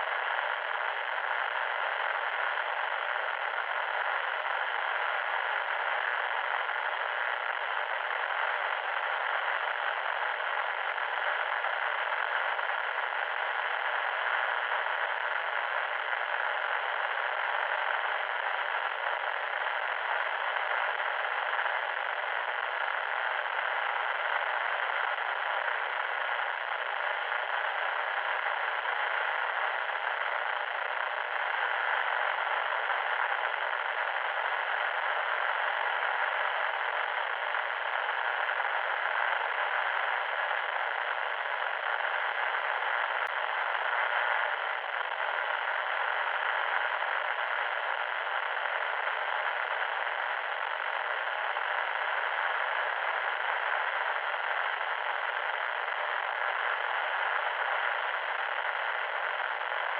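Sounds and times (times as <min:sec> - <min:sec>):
loud static hiss: 0:00.0 - 0:59.9.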